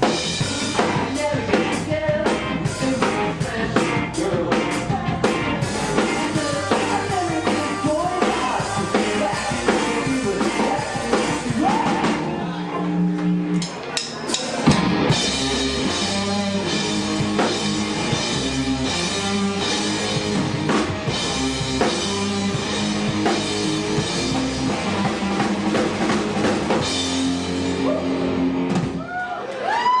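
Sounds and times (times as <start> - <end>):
drum kit: 0.0 - 12.4, 13.1 - 29.2
bass guitar: 0.0 - 29.9
electric guitar: 0.0 - 30.0.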